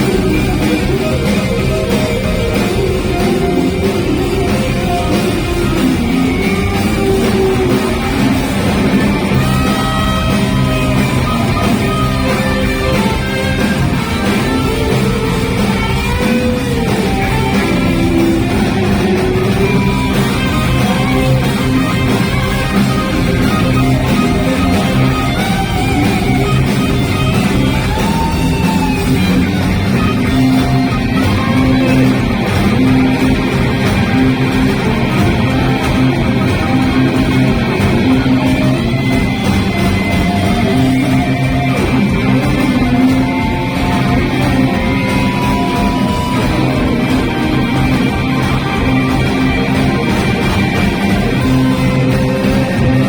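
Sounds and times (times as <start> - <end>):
bending guitar line: 0.0 - 53.0
live rock band playing: 0.0 - 53.0.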